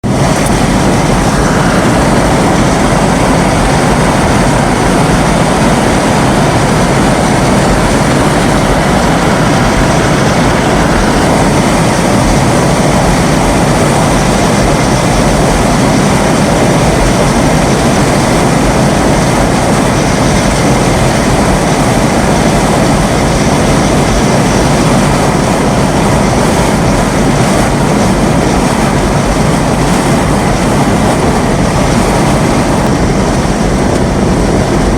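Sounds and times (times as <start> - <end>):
heavy rain: 0.0 - 34.9
storm wind: 0.0 - 34.9.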